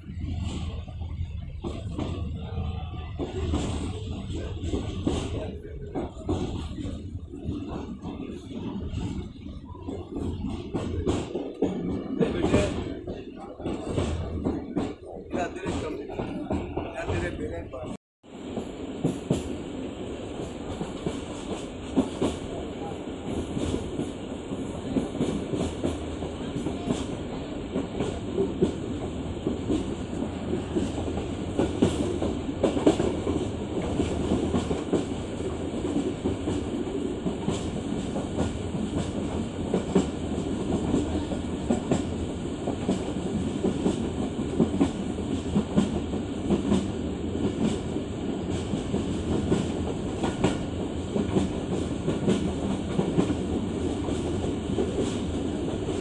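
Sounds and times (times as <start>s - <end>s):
train rumbling along track: 0.0s - 56.0s.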